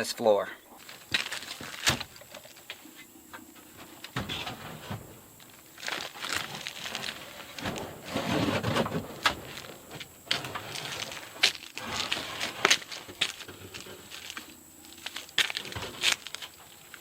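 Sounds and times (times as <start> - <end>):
wood scraping and rustling: 0.7 - 17.0.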